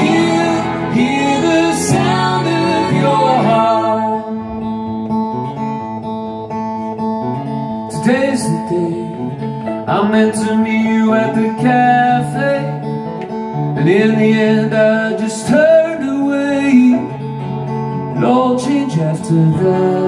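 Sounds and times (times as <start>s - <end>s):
instrumental guitar music: 0.0s - 20.0s.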